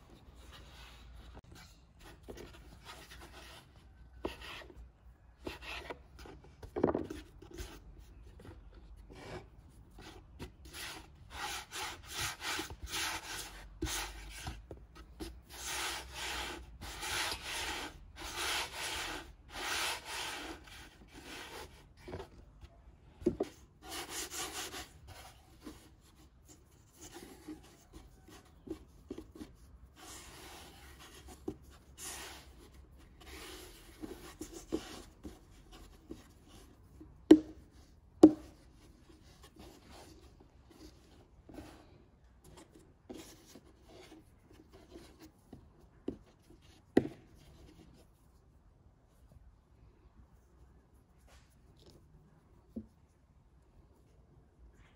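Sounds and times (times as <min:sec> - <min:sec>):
hands rolling dough on board: 0:00.1 - 0:48.4.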